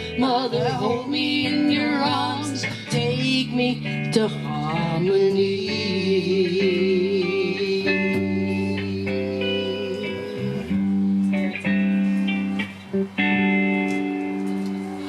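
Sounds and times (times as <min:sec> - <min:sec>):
plucked guitar chords: 0:00.0 - 0:15.0.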